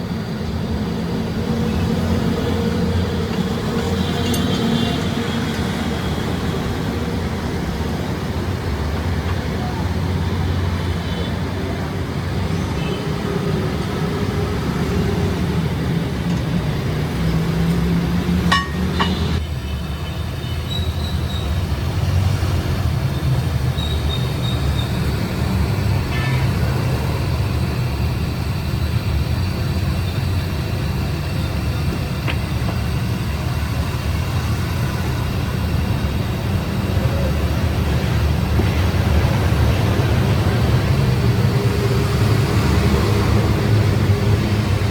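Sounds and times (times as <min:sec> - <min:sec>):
machinery droning: 0:00.0 - 0:44.9.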